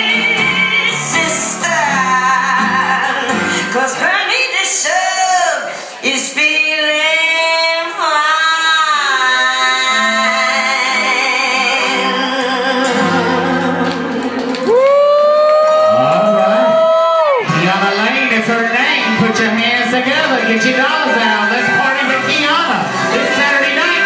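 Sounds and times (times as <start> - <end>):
backing track music: 0.0 - 4.6, 9.1 - 24.0.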